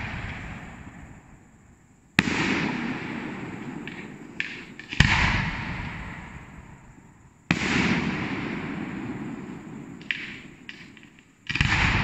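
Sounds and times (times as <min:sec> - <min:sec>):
firework shells bursting with echo: 0:00.0 - 0:12.0.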